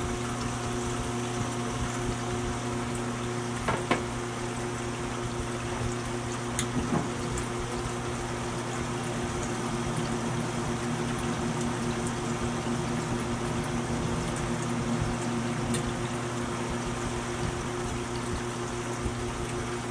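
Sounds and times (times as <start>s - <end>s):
exhaust fan humming: 0.0s - 19.9s.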